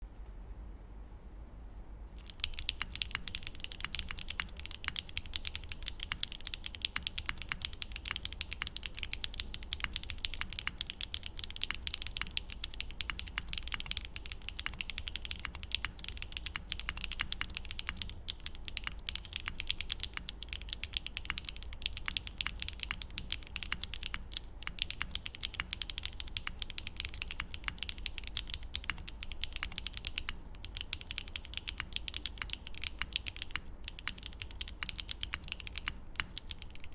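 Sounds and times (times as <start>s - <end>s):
fast typing on mechanical keyboard: 2.2s - 36.9s.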